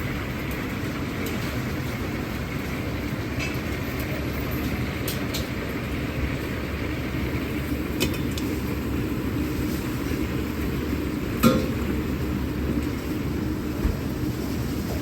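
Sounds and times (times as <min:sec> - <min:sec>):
gas burners and extractor roar: 0:00.0 - 0:15.0.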